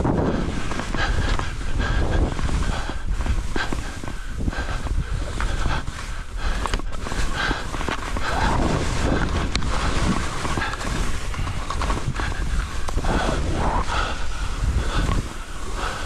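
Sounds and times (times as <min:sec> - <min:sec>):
skis swishing through powder snow: 0:00.0 - 0:16.0
wind buffeting microphone: 0:00.0 - 0:16.0.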